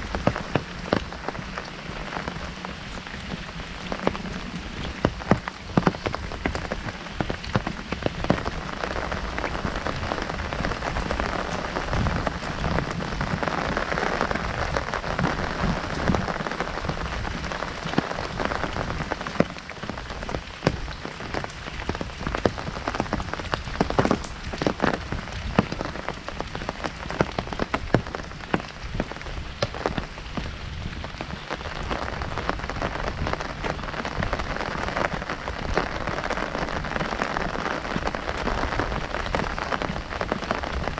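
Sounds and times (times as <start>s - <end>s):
rain drumming on umbrella: 0.0s - 40.9s.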